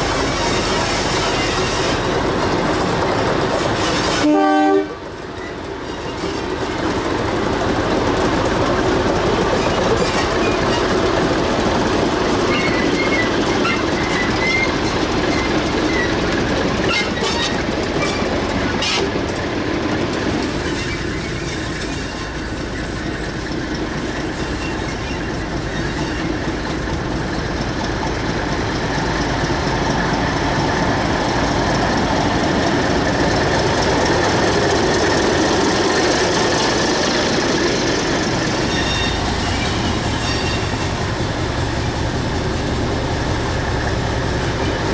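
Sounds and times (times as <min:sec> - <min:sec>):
diesel locomotive engine running: 0:00.0 - 0:44.9
wheels clicking on rails: 0:00.0 - 0:44.9.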